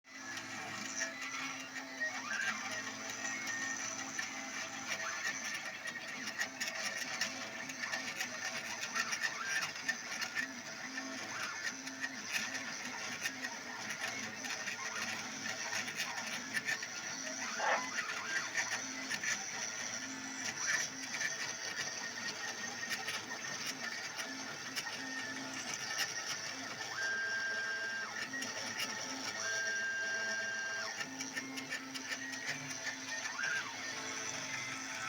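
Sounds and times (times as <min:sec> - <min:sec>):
router spindle whine: 0:00.2 - 0:35.0.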